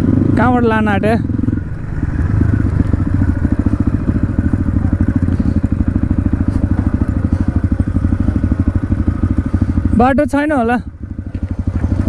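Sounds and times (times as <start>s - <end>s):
dirt bike engine chugging: 0.0s - 12.0s.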